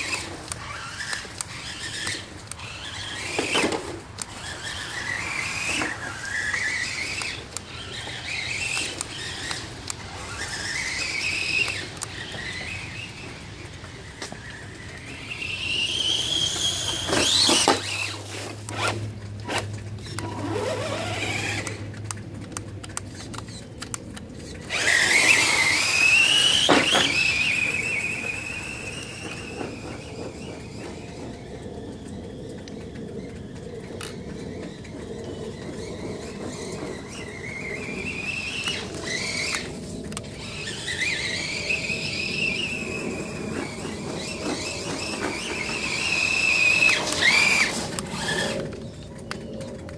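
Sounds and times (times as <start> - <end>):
electric motor whining: 0.0 - 49.9.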